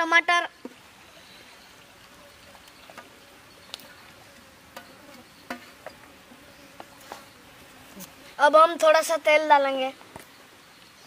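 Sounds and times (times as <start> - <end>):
faint insect buzzing: 0.0 - 11.0.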